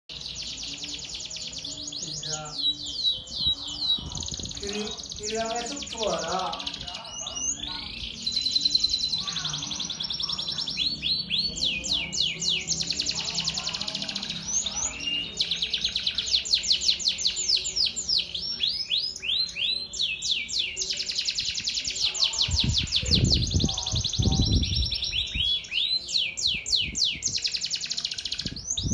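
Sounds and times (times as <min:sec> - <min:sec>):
canary singing trills: 0:00.1 - 0:28.9.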